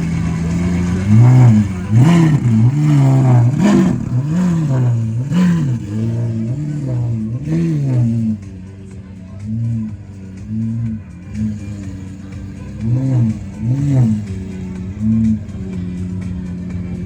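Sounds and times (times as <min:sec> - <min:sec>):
car engine idling and revving: 0:00.0 - 0:17.0
sharp exhaust cracks: 0:00.0 - 0:17.0.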